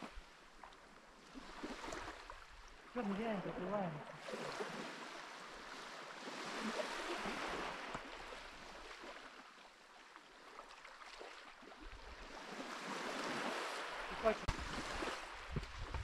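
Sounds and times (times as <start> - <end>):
sea waves washing onto beach: 0.0 - 16.0.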